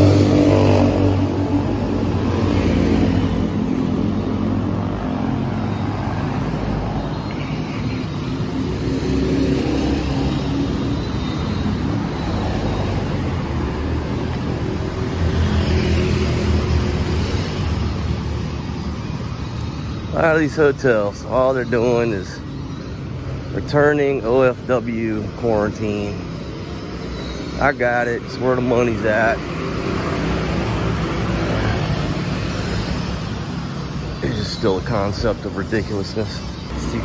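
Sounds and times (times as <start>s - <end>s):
vehicles passing on street: 0.0s - 37.0s.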